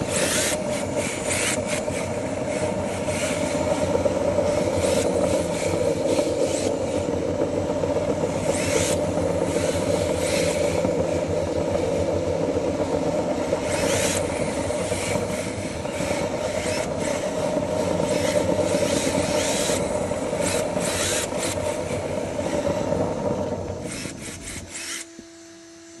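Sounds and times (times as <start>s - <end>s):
electric motor hum: 0.0s - 26.0s.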